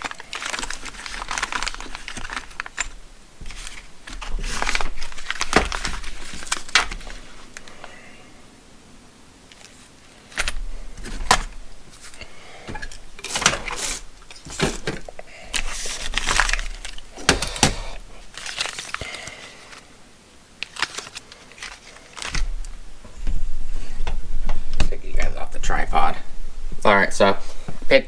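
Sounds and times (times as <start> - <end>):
packaging rustling: 0.0 - 8.3, 9.4 - 25.0.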